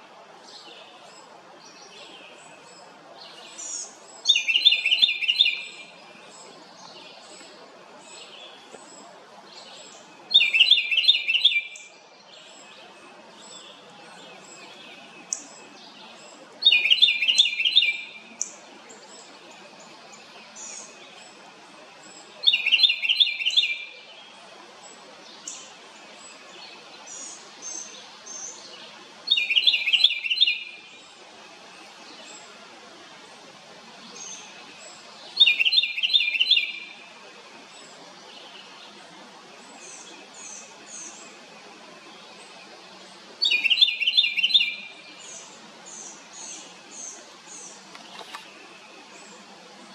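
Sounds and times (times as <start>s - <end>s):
wren trilling song: 0.6s - 21.4s, 22.0s - 24.1s, 24.8s - 31.2s, 34.1s - 37.1s, 39.6s - 49.6s.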